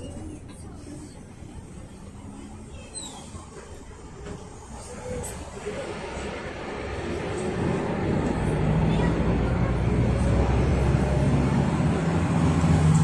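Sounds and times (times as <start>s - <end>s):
diesel engine low hum: 0.0s - 13.0s
road noise: 0.0s - 13.0s.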